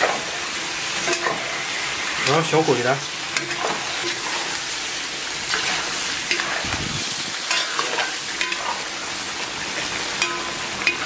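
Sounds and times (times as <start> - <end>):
metal spatula scraping a pan: 0.0 - 2.6, 3.3 - 6.8, 7.4 - 11.0
meat sizzling in a wok: 0.0 - 11.0.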